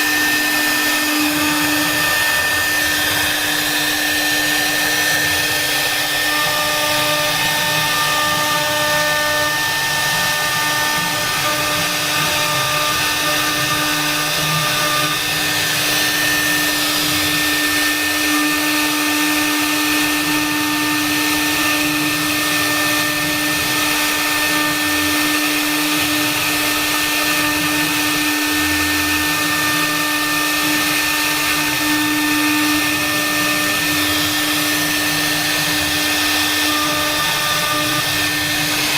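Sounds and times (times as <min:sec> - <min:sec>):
hiss of bit cutting: 0:00.0 - 0:38.9
router spindle whine: 0:00.0 - 0:38.9.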